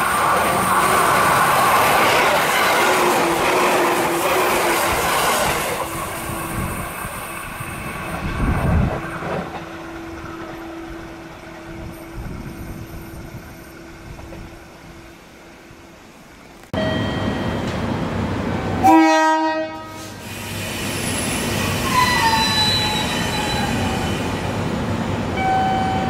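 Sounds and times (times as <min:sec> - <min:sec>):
train passing: 0:00.0 - 0:26.0.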